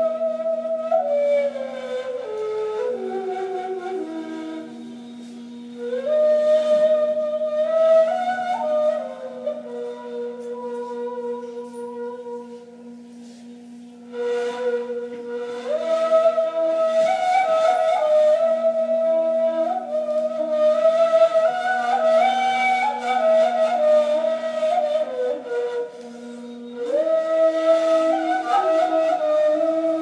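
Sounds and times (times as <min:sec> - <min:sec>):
breathy reed flute melody: 0:00.0 - 0:30.0
low sustained flute drone: 0:00.0 - 0:30.0.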